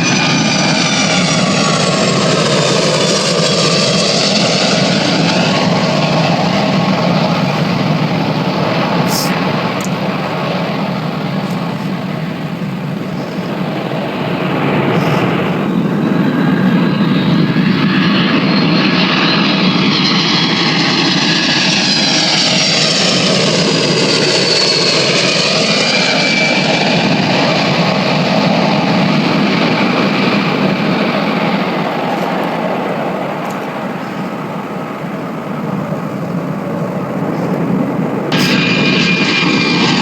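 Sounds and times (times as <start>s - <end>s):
airliner engine roar: 0.0s - 40.0s.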